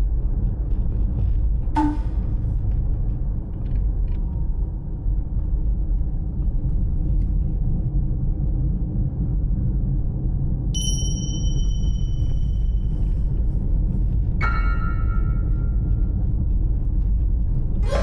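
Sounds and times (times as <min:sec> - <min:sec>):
vehicle rumble from inside: 0:00.0 - 0:18.0.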